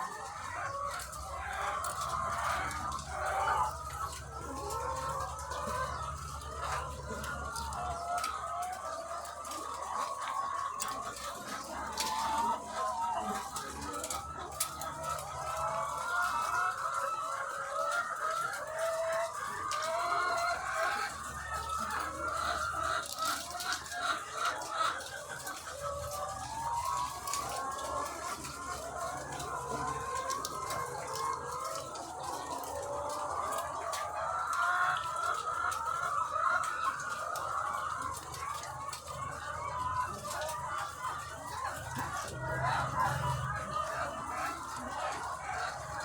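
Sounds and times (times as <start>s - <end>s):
hens clucking: 0.0s - 46.0s.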